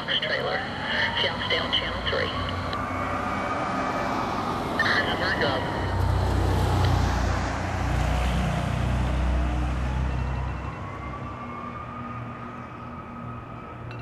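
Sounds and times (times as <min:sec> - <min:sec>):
fire truck siren wailing: 0:00.0 - 0:14.0.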